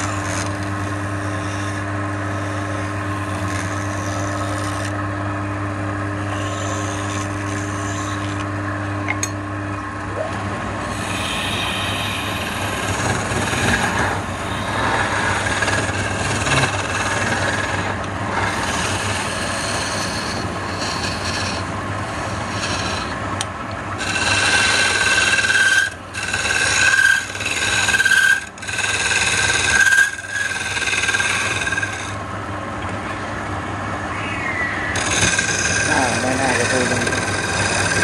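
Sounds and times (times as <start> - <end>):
chisel scraping spinning wood: 0.0 - 5.2, 5.8 - 9.4, 10.8 - 32.3, 34.9 - 38.0
lathe motor hum: 0.0 - 32.6, 34.9 - 38.0.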